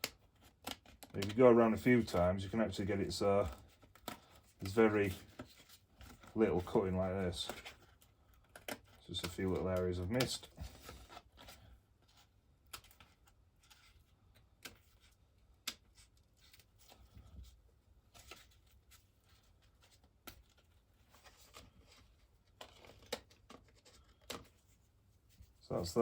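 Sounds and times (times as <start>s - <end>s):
cardboard rustling: 0.2s - 26.0s.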